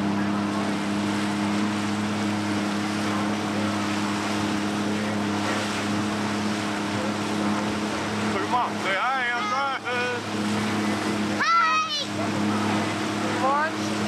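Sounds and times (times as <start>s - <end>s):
motorboat engine running: 0.0s - 14.0s
wind and water rushing: 0.0s - 14.0s.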